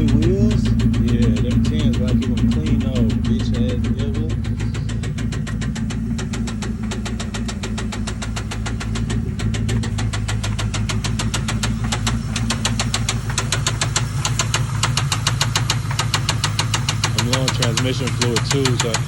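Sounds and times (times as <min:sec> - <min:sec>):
car engine idling with ticking: 0:00.0 - 0:19.0.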